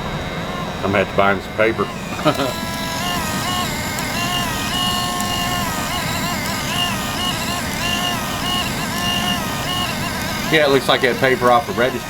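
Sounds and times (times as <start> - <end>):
printer motor whining: 0.0 - 12.0.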